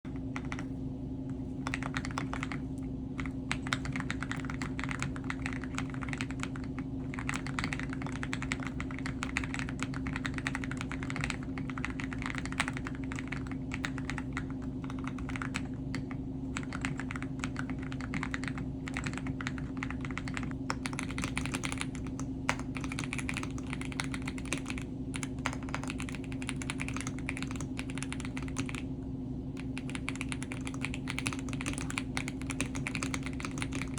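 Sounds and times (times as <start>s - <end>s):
steady low hum: 0.0s - 33.9s
mechanical keyboard clicks: 3.2s - 16.0s, 16.6s - 28.8s, 29.6s - 33.9s.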